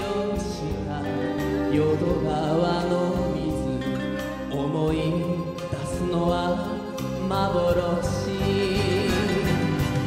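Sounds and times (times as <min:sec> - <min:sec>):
orchestral ballad music: 0:00.0 - 0:10.0.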